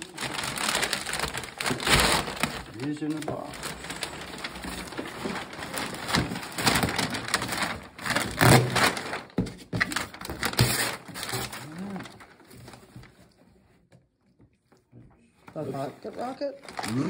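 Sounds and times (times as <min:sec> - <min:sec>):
plastic wrapping crinkling: 0:00.0 - 0:13.8, 0:15.5 - 0:17.0.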